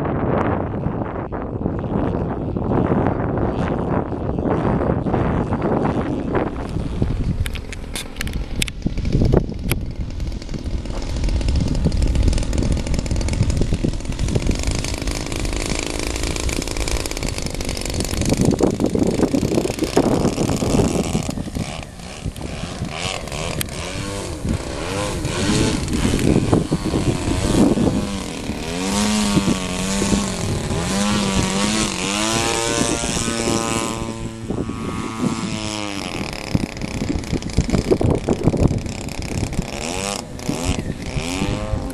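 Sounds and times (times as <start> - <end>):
wind buffeting microphone: 0.0 - 41.9
model plane engine running: 0.1 - 41.9.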